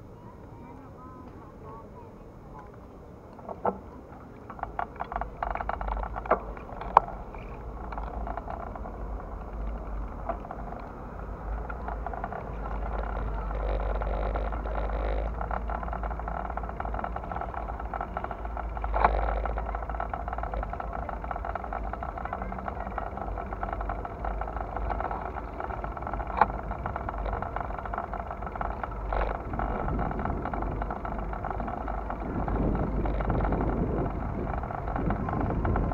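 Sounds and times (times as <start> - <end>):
low microphone rumble: 0.0 - 35.9
steady outdoor hum: 0.0 - 35.9
clicks and rattles: 2.6 - 35.9.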